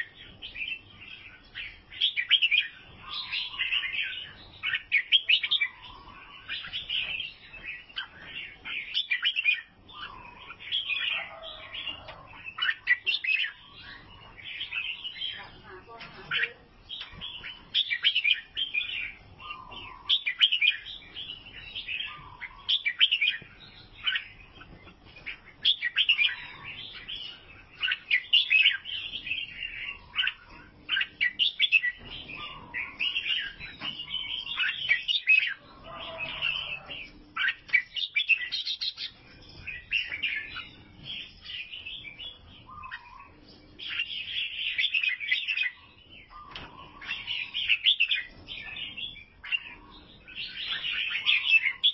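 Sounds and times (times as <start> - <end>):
bird chirping song: 0.0 - 51.9.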